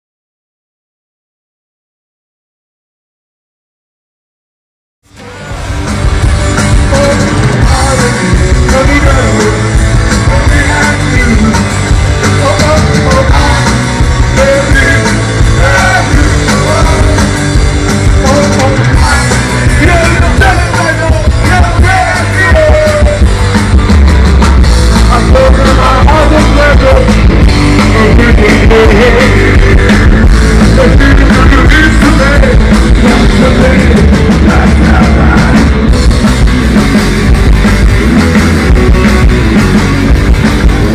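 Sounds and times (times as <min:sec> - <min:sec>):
loud rock music with singing: 0:05.1 - 0:40.9.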